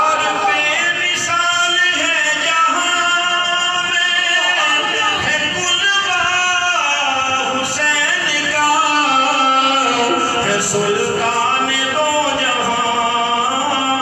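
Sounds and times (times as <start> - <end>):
man chanting melodically: 0.0 - 14.0.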